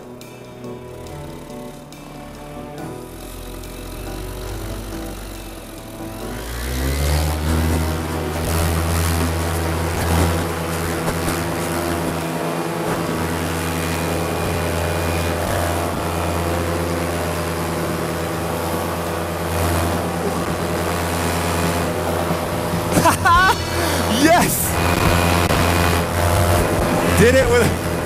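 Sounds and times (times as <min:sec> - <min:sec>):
paramotor engine droning: 0:00.0 - 0:28.0.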